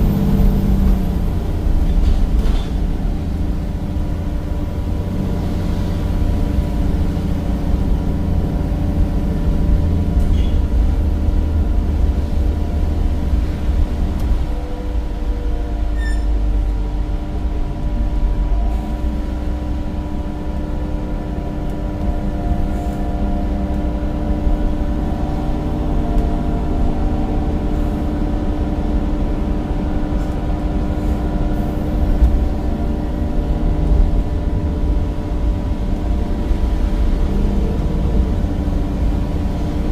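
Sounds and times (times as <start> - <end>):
bus diesel engine rumble: 0.0 - 39.9.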